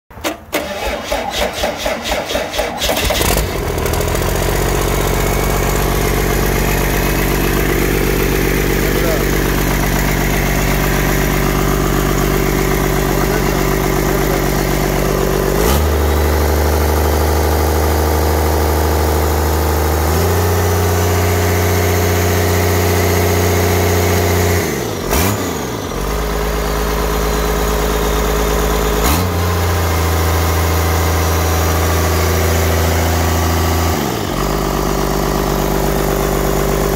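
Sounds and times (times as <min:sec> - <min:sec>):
diesel engine revving: 0:00.2 - 0:36.9.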